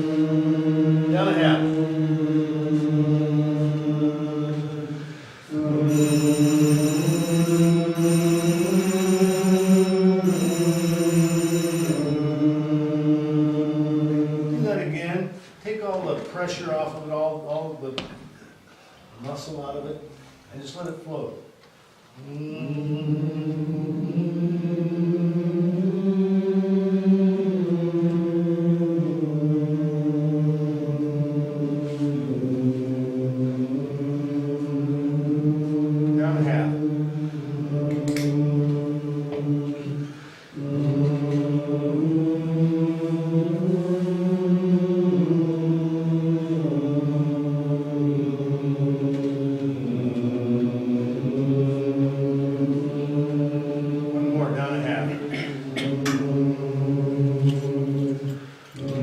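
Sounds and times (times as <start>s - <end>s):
choir singing held chords: 0.0s - 15.5s, 22.1s - 59.0s.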